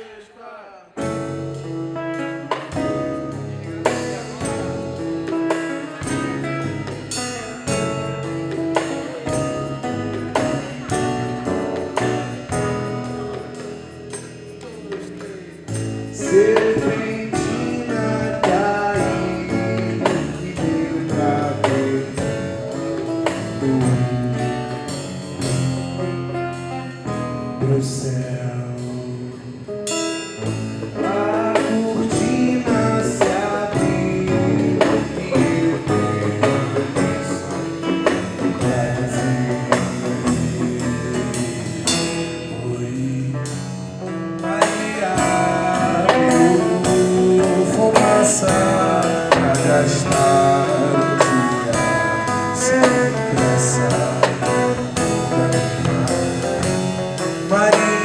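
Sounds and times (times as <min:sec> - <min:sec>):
live band playing with drums: 0:01.0 - 0:58.0
man singing: 0:02.4 - 0:13.6, 0:14.6 - 0:25.7, 0:27.0 - 0:58.0.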